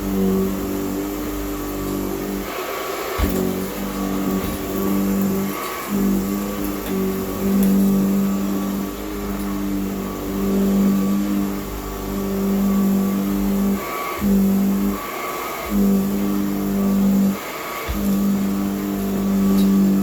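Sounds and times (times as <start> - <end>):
vacuum cleaner humming: 0.0 - 20.0.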